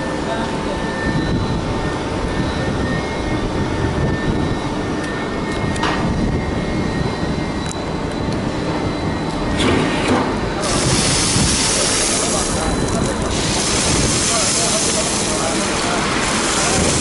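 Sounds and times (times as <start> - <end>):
crane machinery droning: 0.0 - 17.0.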